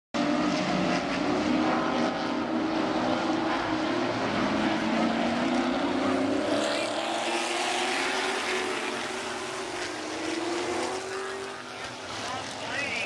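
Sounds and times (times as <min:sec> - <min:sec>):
race cars passing in a pack: 0:00.2 - 0:13.0.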